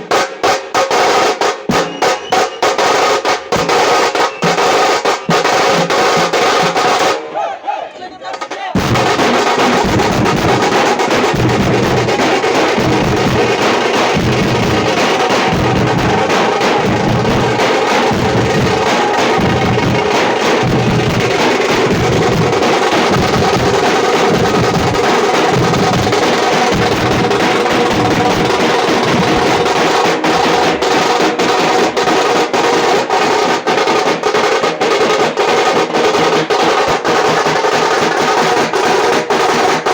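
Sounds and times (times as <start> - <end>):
frame drums playing fast rhythm: 0.0 - 7.2, 8.3 - 39.9.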